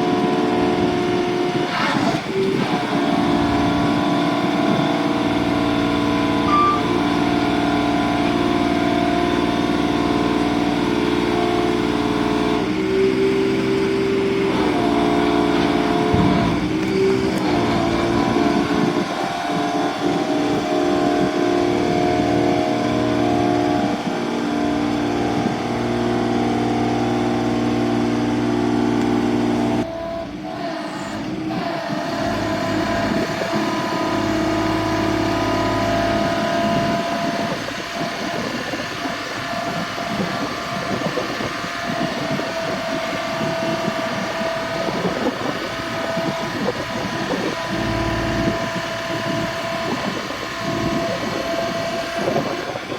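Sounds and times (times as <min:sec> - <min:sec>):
truck engine running: 0:00.0 - 0:52.9.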